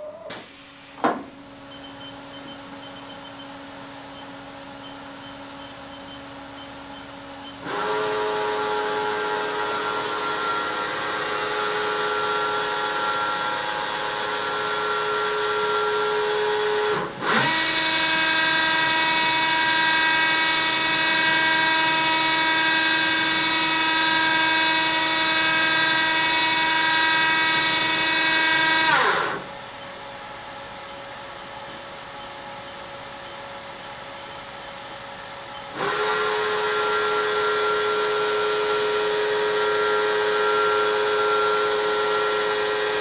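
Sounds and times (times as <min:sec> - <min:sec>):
mill spindle whine: 0:00.0 - 0:43.0.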